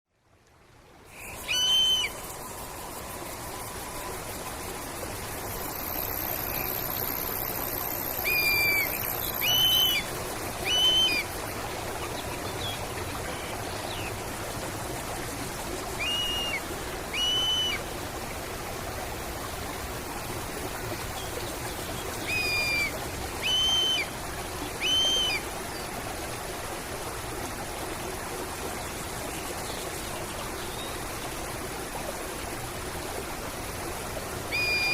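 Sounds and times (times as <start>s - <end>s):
stream running: 0.1s - 34.9s.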